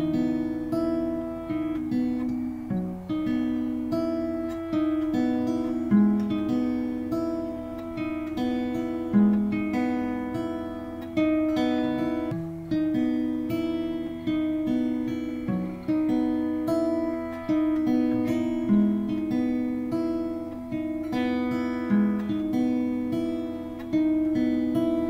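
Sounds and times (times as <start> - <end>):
acoustic guitar slow melody: 0.0 - 25.0.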